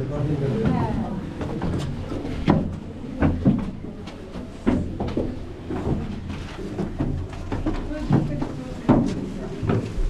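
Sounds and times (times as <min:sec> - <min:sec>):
sharp knocks and thumps: 0:00.6 - 0:10.0.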